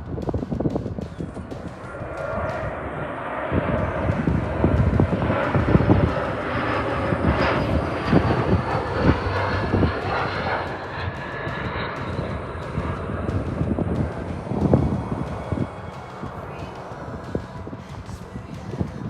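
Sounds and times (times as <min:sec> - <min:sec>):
airliner engines roaring: 0:00.0 - 0:19.0
high engine whine: 0:00.0 - 0:19.0.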